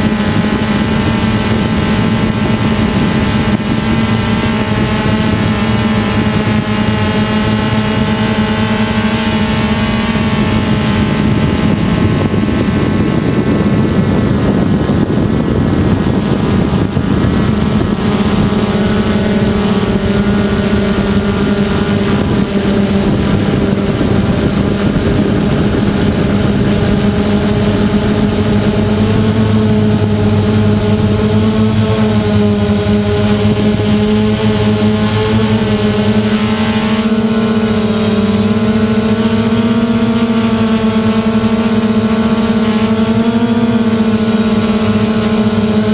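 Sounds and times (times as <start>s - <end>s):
drone propellers buzzing: 0.0s - 45.9s.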